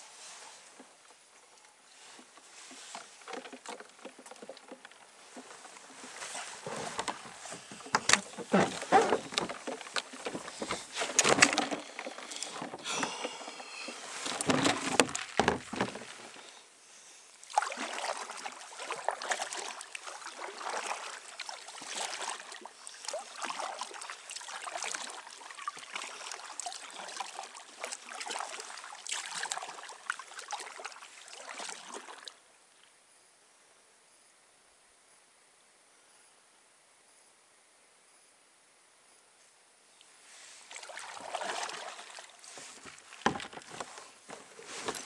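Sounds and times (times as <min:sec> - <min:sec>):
paddle splashing water: 0:00.0 - 0:16.7, 0:17.4 - 0:32.4, 0:40.5 - 0:45.0.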